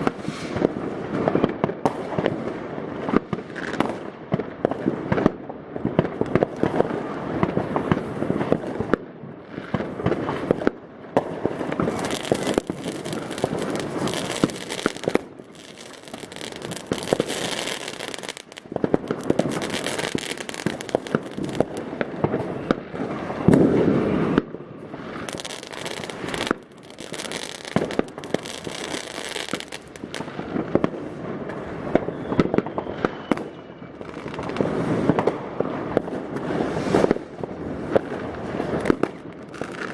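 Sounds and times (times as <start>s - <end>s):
firecrackers crackling: 0.0s - 39.9s
fireworks bangs: 0.0s - 39.9s.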